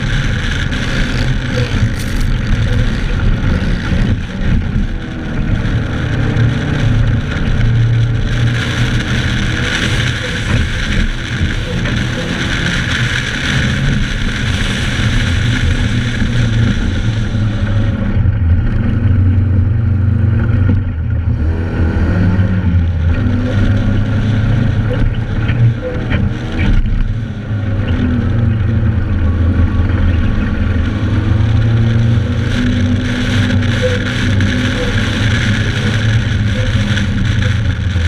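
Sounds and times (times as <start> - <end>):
rushing noise: 0.0 - 38.0
vehicle engine running under load: 0.0 - 38.0.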